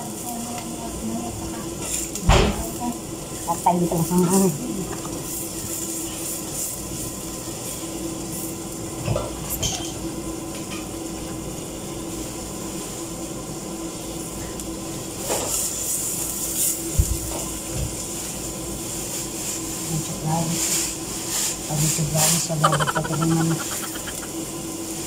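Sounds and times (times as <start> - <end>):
onion frying in oil: 0.0 - 25.0
steady hum and hiss: 0.0 - 25.0.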